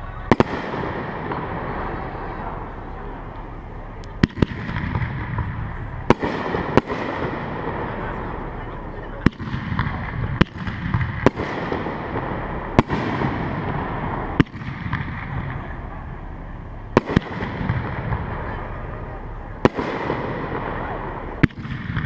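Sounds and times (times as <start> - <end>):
rumbling haze: 0.0 - 22.0.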